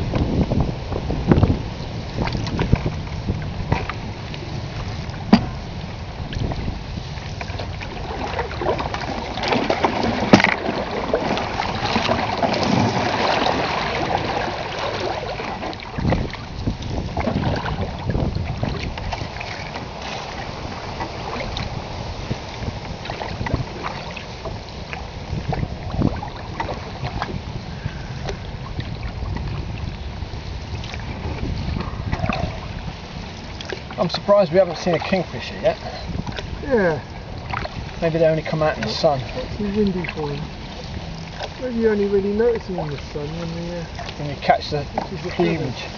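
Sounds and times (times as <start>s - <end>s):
paddle strokes: 0.0s - 45.9s
water washing along hull: 0.0s - 45.9s
wind buffeting microphone: 0.0s - 45.9s.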